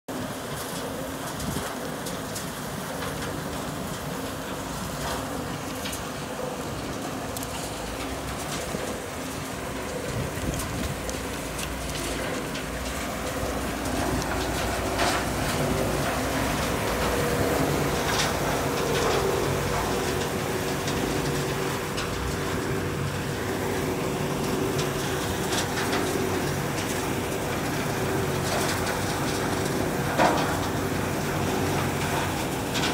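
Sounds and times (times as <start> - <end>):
diesel machine drone with whine: 0.1 - 32.9.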